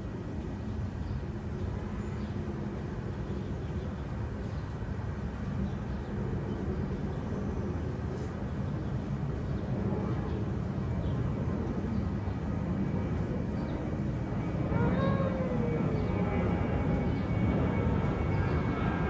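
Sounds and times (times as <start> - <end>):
street background rumble: 0.0 - 19.0.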